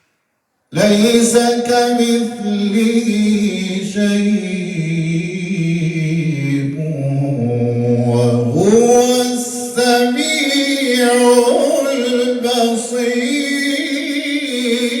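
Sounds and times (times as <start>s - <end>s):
man chanting melodically: 0.7s - 15.0s.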